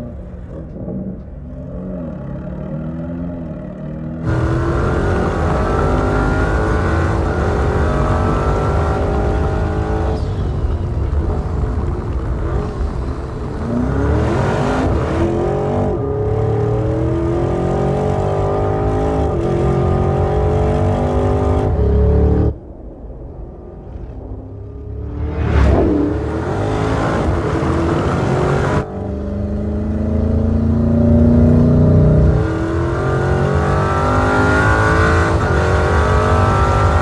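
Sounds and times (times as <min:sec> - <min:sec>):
car engine accelerating hard: 0:00.0 - 0:22.6, 0:24.6 - 0:37.0.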